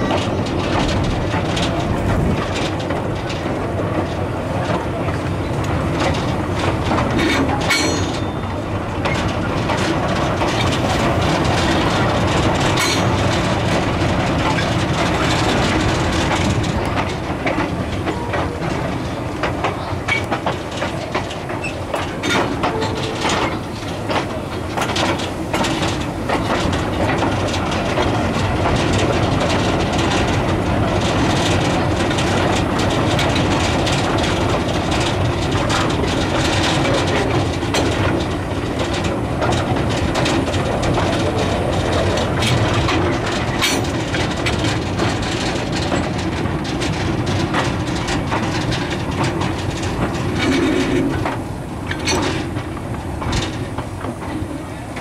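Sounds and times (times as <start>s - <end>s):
train wheels rattling on track: 0.0s - 55.0s.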